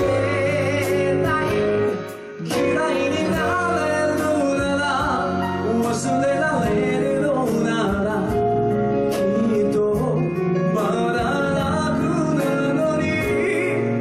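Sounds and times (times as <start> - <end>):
band playing: 0.0 - 14.0
man singing into microphone: 0.0 - 14.0.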